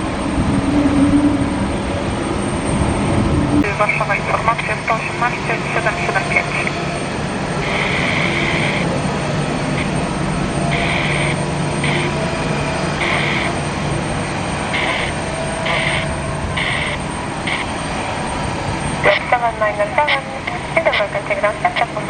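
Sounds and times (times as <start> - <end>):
jet engine noise: 0.0 - 22.0
higher-pitched bursts: 3.6 - 22.0.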